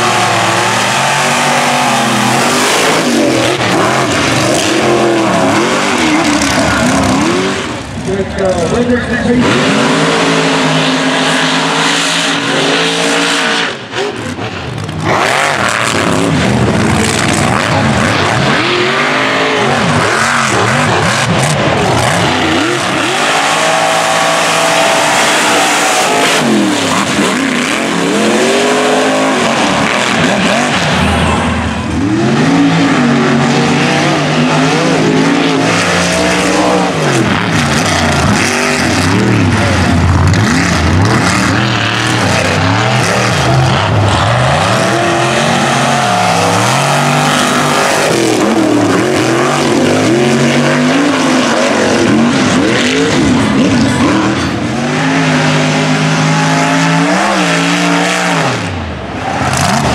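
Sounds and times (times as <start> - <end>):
truck engines revving hard: 0.0 - 59.9.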